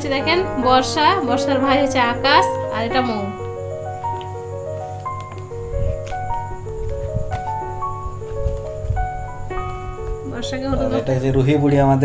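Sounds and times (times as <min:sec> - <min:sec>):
slow melody of held notes: 0:00.0 - 0:12.0.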